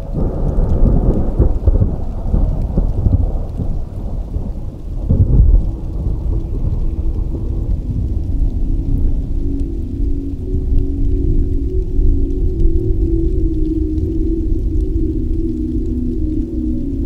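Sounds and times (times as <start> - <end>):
faint steady musical tones: 0.0 - 17.0
rain: 0.0 - 17.0
rolling thunder: 0.0 - 17.0.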